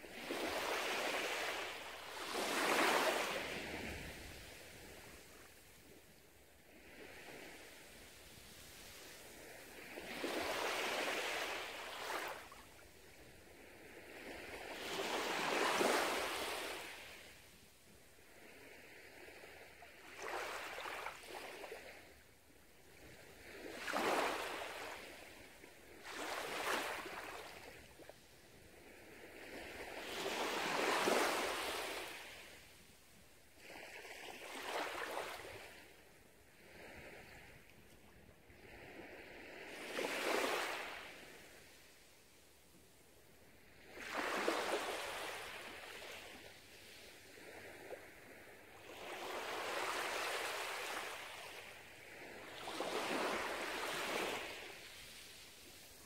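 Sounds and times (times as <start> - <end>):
small waves washing on sand: 0.0 - 56.0.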